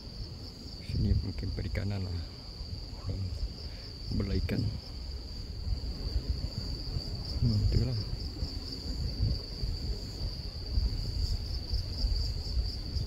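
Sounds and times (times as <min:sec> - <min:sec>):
insects chirring: 0:00.0 - 0:13.0
wind on microphone: 0:00.0 - 0:13.0.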